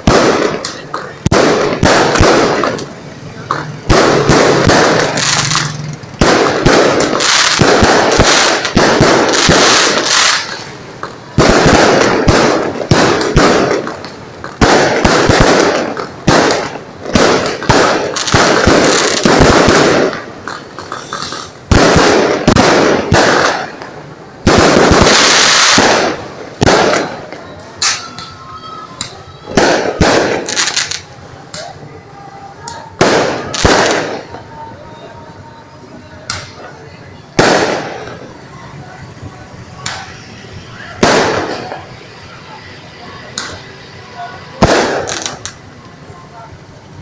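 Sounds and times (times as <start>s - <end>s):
fireworks banging and crackling: 0.0s - 47.0s.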